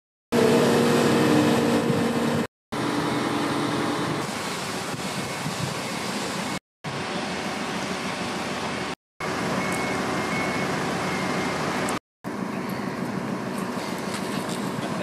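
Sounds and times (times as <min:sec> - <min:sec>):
heavy vehicle engine humming: 0:00.3 - 0:15.0
outdoor noise: 0:00.3 - 0:15.0.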